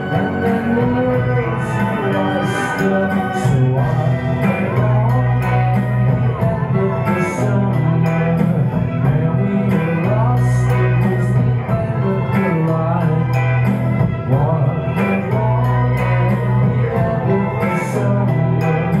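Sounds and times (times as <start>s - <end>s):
electric guitar: 0.0s - 19.0s
man singing into a microphone: 0.0s - 19.0s.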